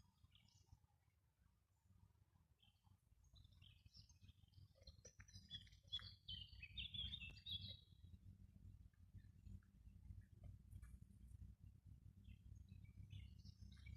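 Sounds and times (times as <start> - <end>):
faint low rumble: 0.0 - 13.9
songbird singing chirps and trills: 0.0 - 13.9.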